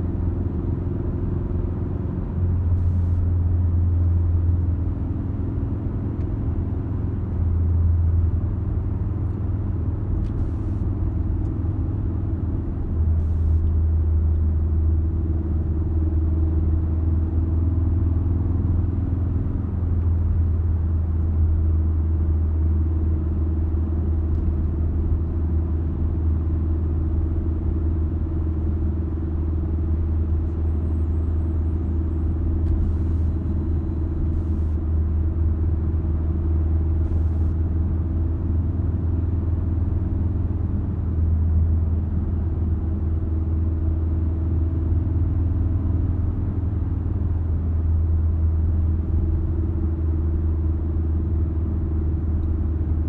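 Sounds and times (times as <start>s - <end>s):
car engine and tyre drone: 0.0s - 53.0s.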